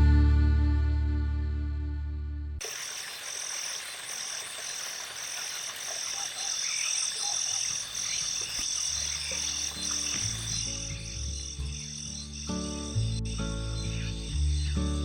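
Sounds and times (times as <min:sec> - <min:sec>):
frogs croaking: 0:02.6 - 0:15.0
pulsing insect chirp: 0:02.6 - 0:15.0.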